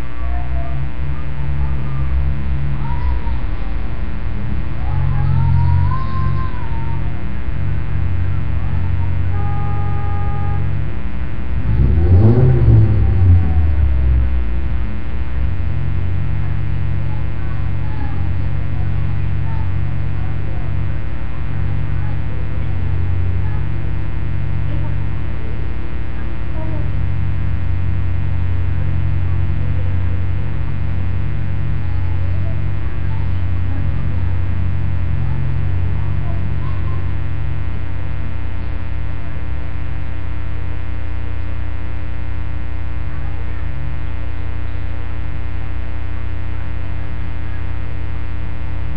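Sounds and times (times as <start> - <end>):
loud electrical hum: 0.0 - 48.9.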